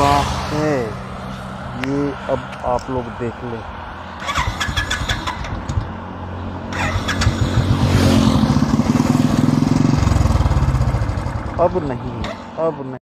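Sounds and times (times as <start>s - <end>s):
low traffic hum: 0.0s - 13.0s
motorcycle passing: 0.0s - 13.0s.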